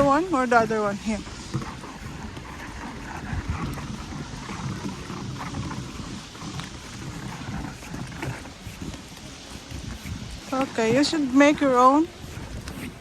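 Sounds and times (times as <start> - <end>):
footsteps crunching through snow: 0.0 - 13.0
wind buffeting microphone: 0.0 - 13.0.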